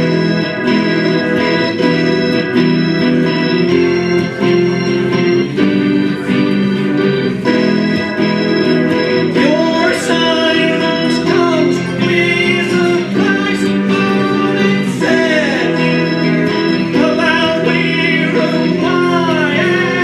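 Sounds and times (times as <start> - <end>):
organ music: 0.0 - 20.0.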